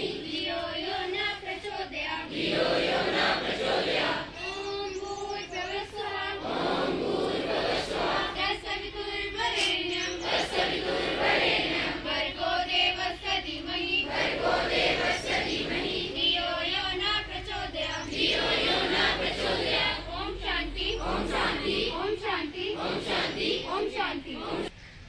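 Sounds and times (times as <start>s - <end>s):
students singing a prayer: 0.0s - 24.7s.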